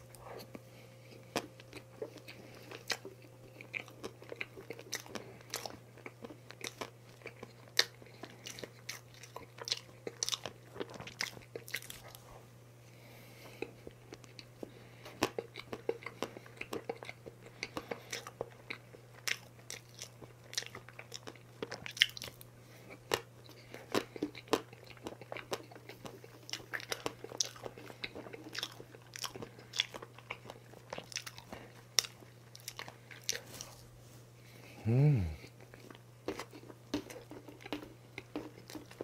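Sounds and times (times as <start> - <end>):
chewing cake: 0.0 - 33.8, 34.4 - 39.0.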